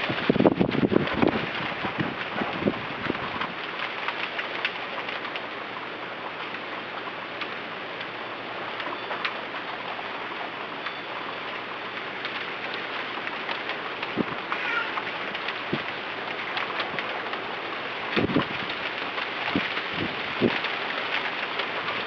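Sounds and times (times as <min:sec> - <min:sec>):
low wind rumble: 0:00.0 - 0:22.0
rain hissing: 0:00.0 - 0:22.0
raindrop ticks: 0:00.0 - 0:22.0.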